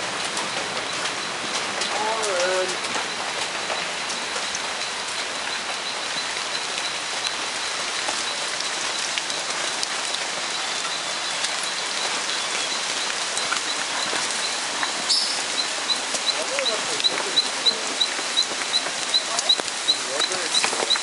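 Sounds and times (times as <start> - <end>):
rain on foliage: 0.0 - 21.0
water dripping: 0.0 - 21.0.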